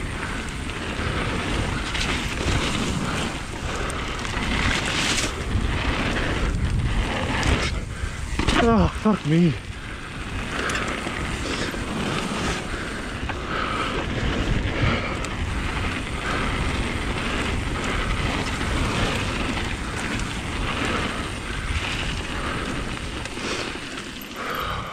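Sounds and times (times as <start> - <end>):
wind on microphone: 0.0 - 23.9
bike tyres rolling on gravel: 0.0 - 24.9.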